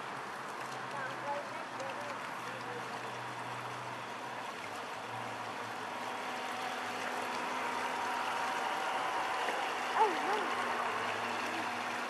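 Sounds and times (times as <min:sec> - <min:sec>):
water rushing wash: 0:00.0 - 0:12.0
model boat motor whine: 0:01.7 - 0:12.0.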